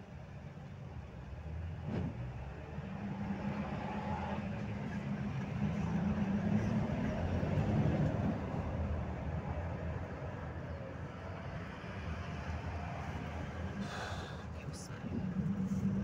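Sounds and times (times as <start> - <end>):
bus engine and road drone: 0.0 - 16.0.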